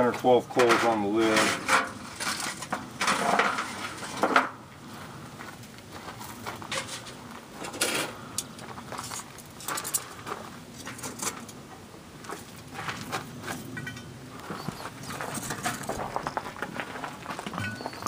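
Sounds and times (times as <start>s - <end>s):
charcoal briquettes clattering: 0.0s - 4.6s, 5.6s - 18.0s
coals clinking and knocking: 0.0s - 4.8s, 5.6s - 18.0s.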